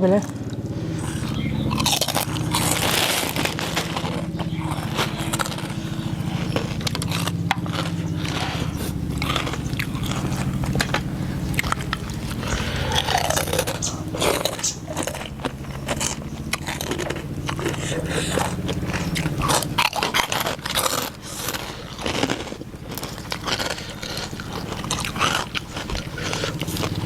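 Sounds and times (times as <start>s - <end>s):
people chewing and crunching: 0.0s - 27.0s
steady low hum: 0.0s - 27.0s.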